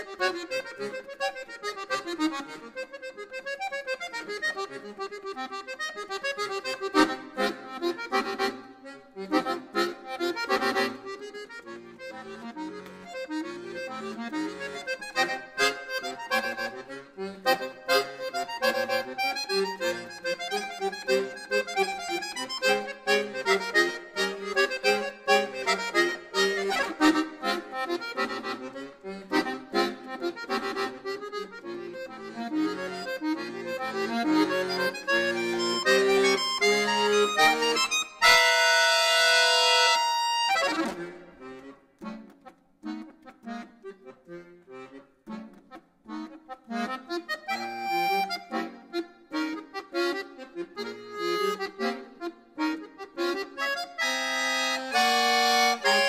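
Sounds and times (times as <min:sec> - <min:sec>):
button accordion playing: 0:00.0 - 0:56.0.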